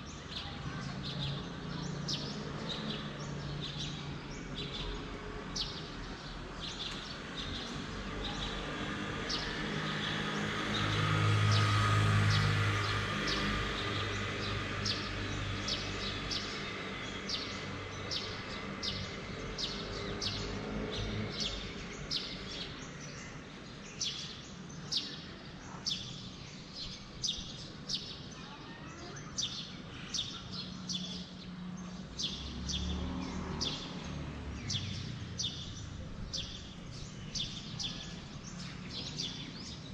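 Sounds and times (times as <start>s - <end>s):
outdoor background noise: 0.0s - 39.9s.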